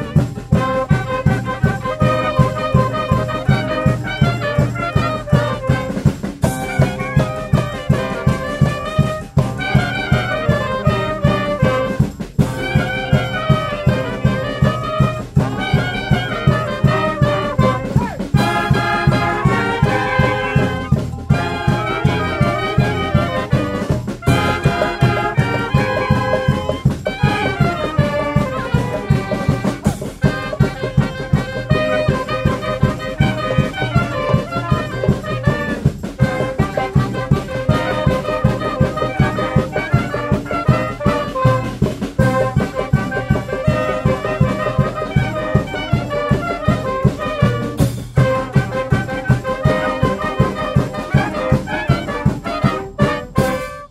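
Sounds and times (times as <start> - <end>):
brass band playing: 0.0 - 53.9
percussion beat: 0.0 - 53.9.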